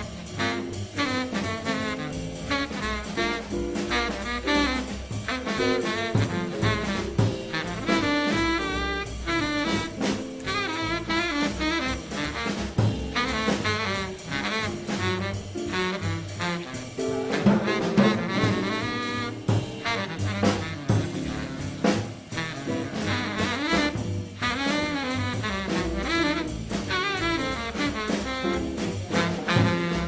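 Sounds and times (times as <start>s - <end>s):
drums: 0.0s - 30.0s
horn playing jazz melody: 0.0s - 30.0s
upright bass: 0.0s - 30.0s.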